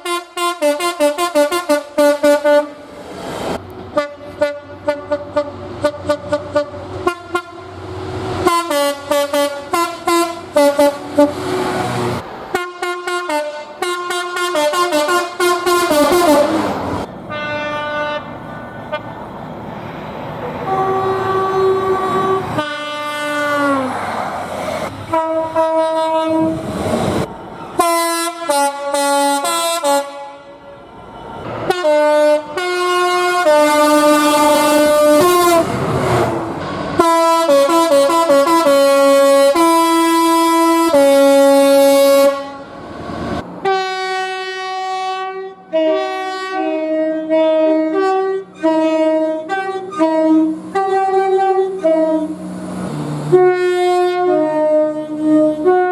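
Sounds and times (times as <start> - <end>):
train air horns: 0.0 - 3.0, 3.9 - 19.2, 20.6 - 24.2, 24.9 - 26.8, 27.7 - 55.9.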